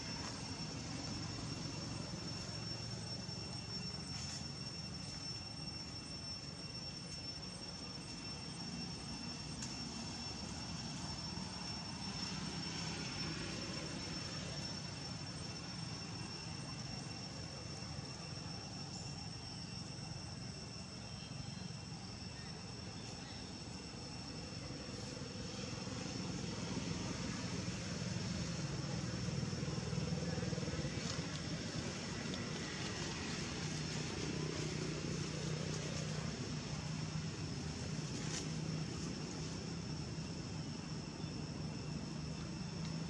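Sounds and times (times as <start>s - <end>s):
thin high-pitched whine: 0.0s - 43.0s.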